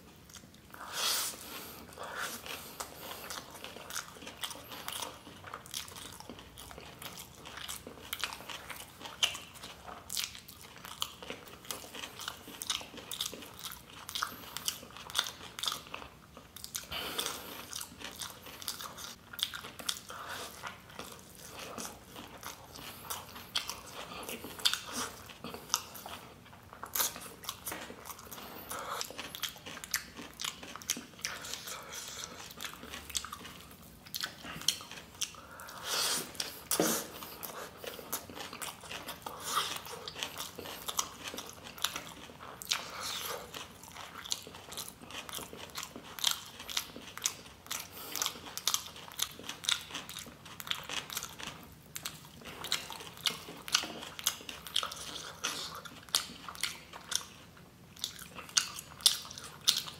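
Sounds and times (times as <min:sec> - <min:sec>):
man chewing wetly: 0:00.0 - 0:59.9.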